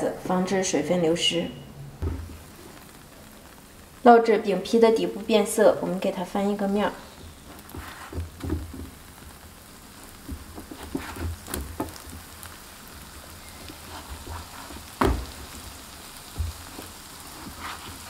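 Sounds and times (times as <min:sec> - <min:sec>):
flatbreads sizzling in oil: 0:02.0 - 0:18.0.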